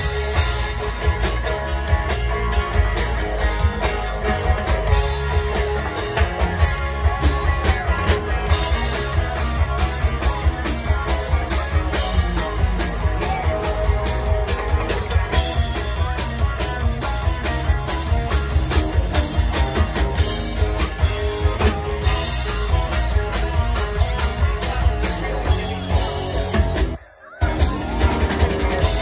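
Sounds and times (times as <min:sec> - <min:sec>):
bass guitar: 0:00.0 - 0:29.0
drum kit beat: 0:00.0 - 0:29.0
electric guitars: 0:00.0 - 0:29.0.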